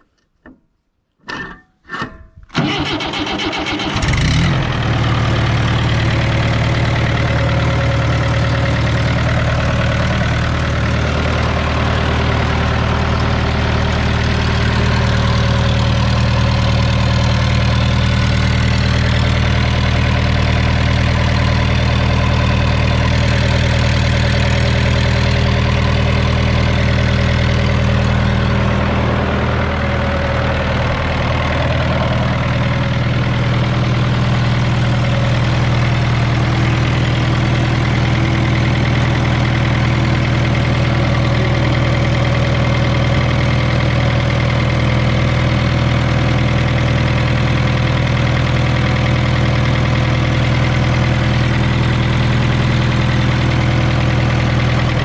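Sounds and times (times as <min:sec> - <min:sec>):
diesel engine cranking and idling: 0:02.4 - 0:55.0.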